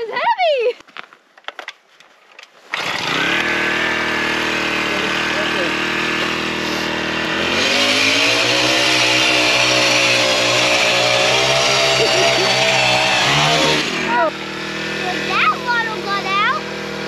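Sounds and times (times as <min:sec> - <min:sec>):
ice auger engine drilling: 0:02.6 - 0:17.0.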